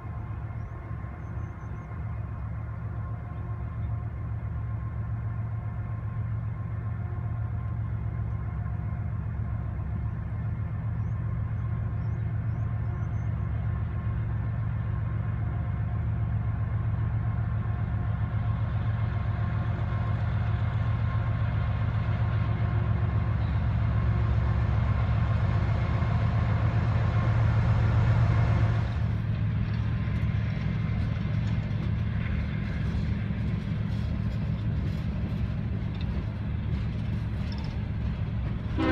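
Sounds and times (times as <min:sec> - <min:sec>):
diesel locomotive engine drone: 0:00.0 - 0:38.9
train wheels rumbling on rail: 0:00.0 - 0:38.9.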